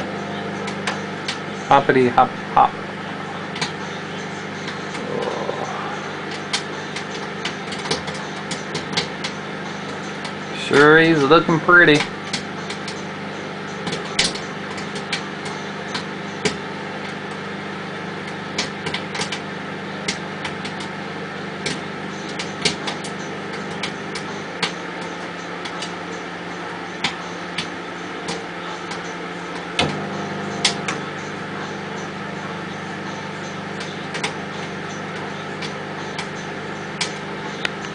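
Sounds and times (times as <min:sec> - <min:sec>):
microwave oven hum: 0:00.0 - 0:37.9
popcorn popping: 0:06.1 - 0:37.9.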